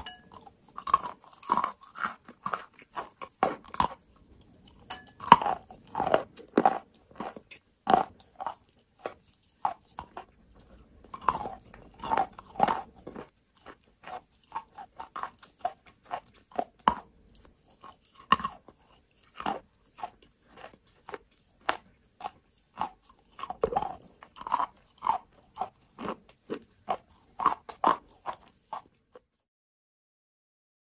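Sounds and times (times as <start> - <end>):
chalk crunching while chewed: 0.0 - 29.4.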